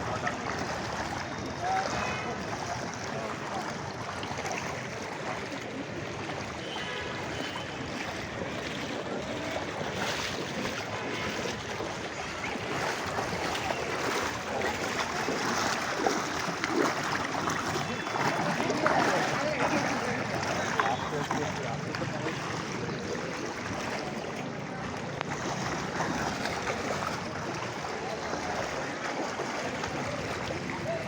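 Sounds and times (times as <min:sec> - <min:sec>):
heavy rain and floodwater rushing: 0:00.0 - 0:31.0.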